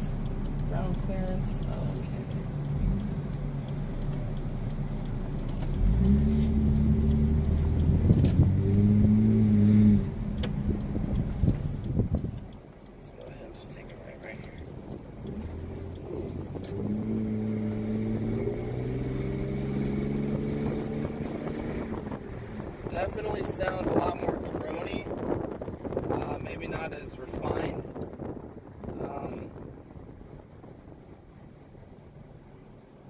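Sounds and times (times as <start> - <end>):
car exhaust drone accelerating: 0.0 - 33.0
road noise: 0.0 - 33.0.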